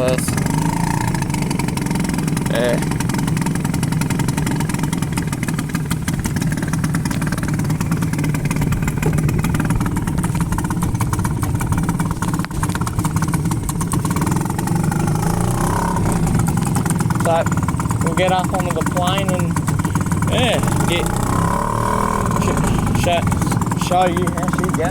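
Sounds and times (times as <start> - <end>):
outboard motor running: 0.0 - 24.9.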